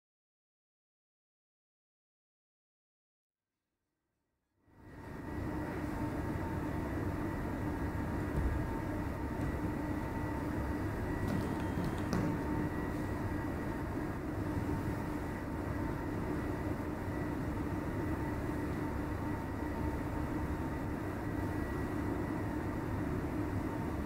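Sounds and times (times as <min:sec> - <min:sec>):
faint even hum: 0:04.7 - 0:24.0.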